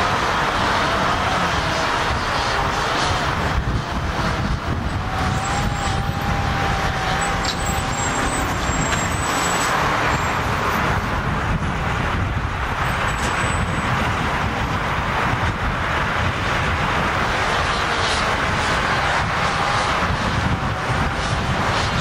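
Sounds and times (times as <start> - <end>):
motor vehicle rumble: 0.0 - 22.0.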